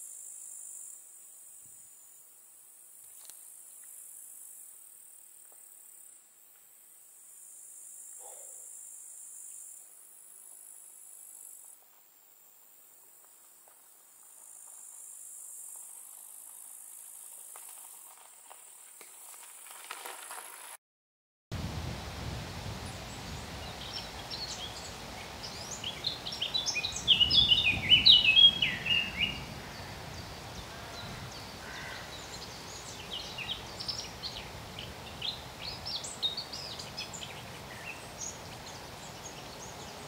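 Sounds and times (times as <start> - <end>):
crickets chirping: 0.0 - 20.7, 22.5 - 40.0.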